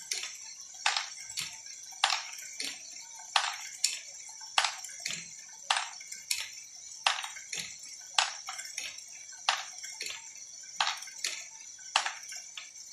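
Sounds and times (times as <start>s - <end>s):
plastic clicks and clacks: 0.0s - 10.2s, 10.8s - 12.7s.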